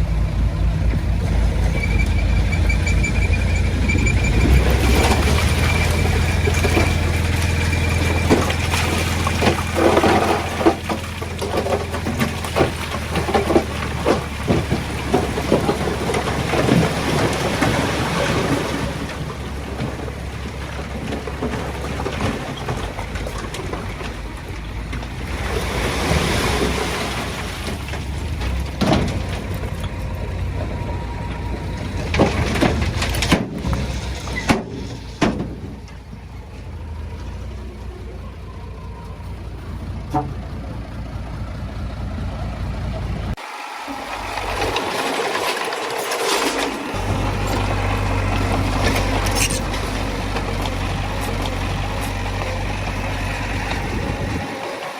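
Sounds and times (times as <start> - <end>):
tracks and stone clanking: 0.0 - 37.8, 41.8 - 54.9
bulldozer diesel engine droning: 0.0 - 54.9.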